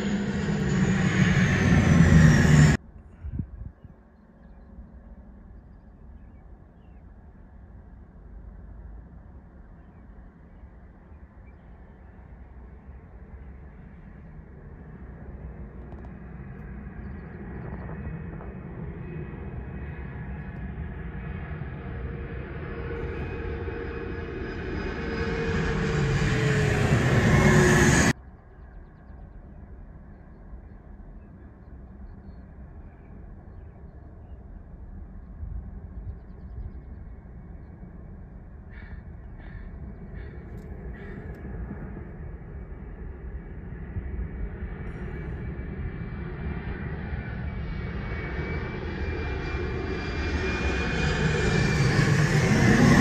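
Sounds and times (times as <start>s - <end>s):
high engine whine: 0.0s - 3.1s, 4.4s - 53.0s
jet passing low overhead: 0.0s - 3.5s, 4.7s - 53.0s.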